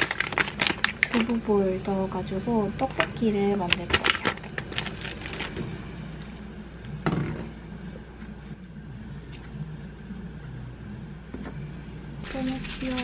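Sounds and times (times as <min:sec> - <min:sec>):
gas burner rumbling: 0:00.0 - 0:13.0.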